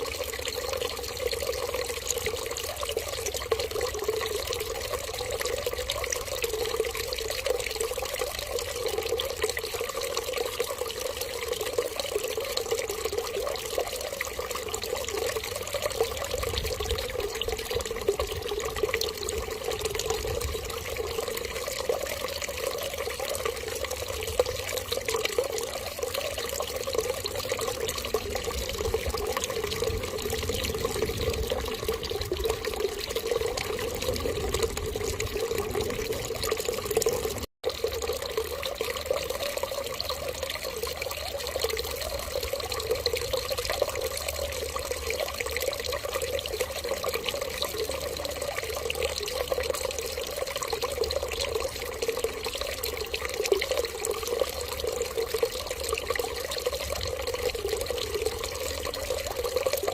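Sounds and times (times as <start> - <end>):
water running in stream: 0.0 - 59.9.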